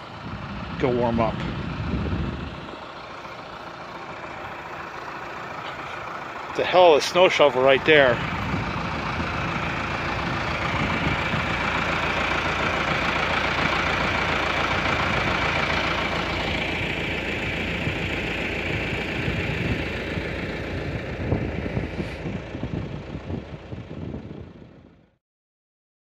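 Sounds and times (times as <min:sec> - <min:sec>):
tractor engine running: 0:00.0 - 0:25.2.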